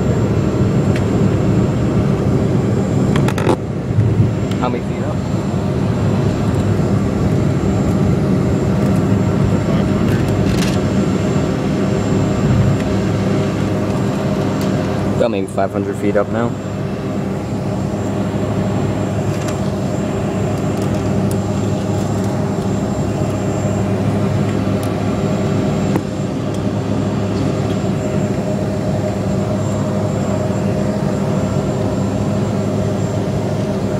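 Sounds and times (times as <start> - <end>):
jet airliner cabin drone: 0.0 - 33.9.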